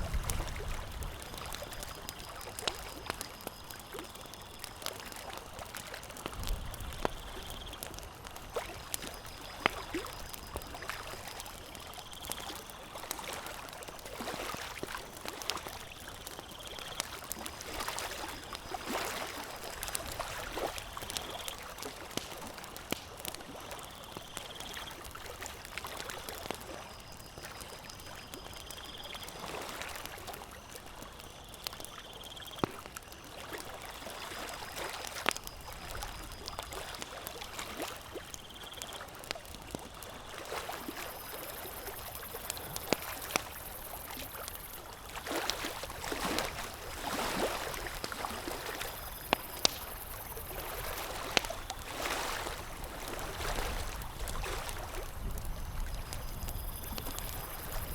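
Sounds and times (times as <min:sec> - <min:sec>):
campfire crackling: 0:00.0 - 0:57.9.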